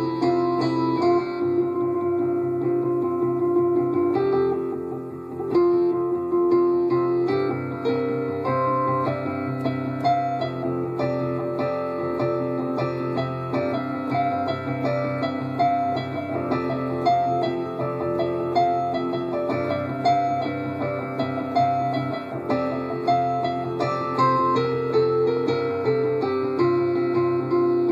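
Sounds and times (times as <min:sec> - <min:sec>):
piano-tone keyboard music: 0:00.0 - 0:27.9.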